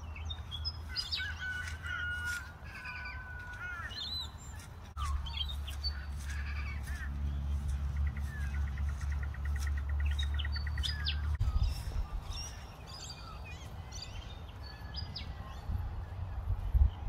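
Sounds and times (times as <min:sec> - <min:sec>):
bird trill: 0:00.0 - 0:15.8
birds chirping and calling: 0:00.0 - 0:17.0.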